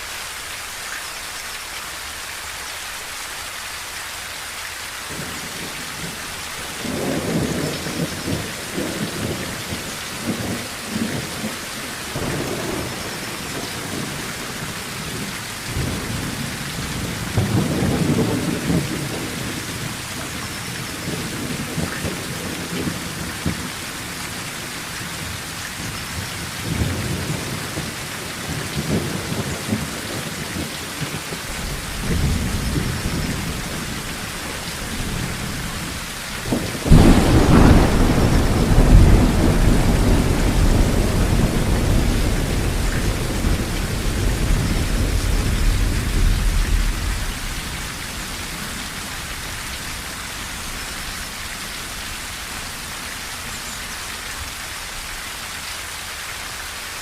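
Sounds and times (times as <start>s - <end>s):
heavy rain on a tin roof: 0.0s - 57.0s
thunder rumbling: 5.1s - 52.5s.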